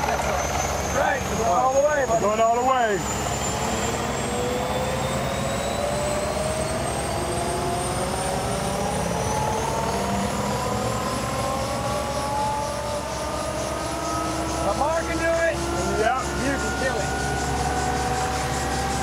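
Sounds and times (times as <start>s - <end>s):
helicopter rotor chop: 0.0s - 19.0s
turbine engine whine: 0.0s - 19.0s.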